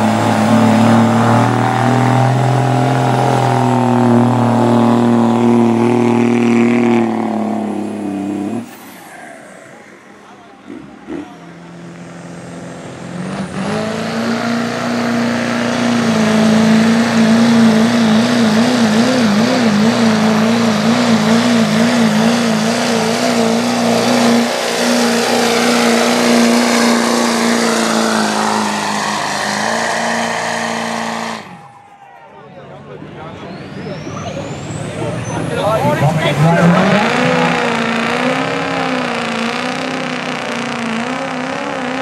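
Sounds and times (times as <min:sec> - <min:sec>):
diesel engine at full throttle: 0:00.0 - 0:42.0.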